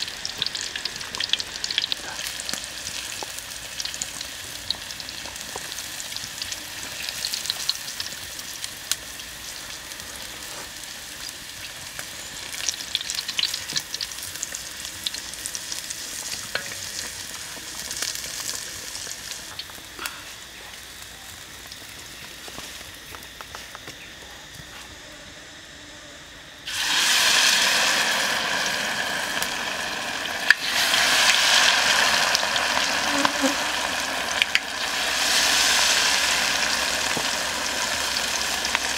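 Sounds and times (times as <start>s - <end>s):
meat deep-frying in hot oil: 0.0s - 23.5s, 26.6s - 38.9s.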